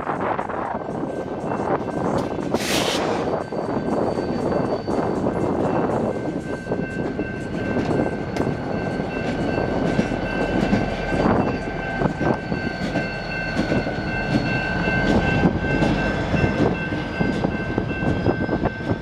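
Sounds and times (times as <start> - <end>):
diesel locomotive engine drone: 0.0 - 19.0
high steady ringing tone: 3.2 - 19.0.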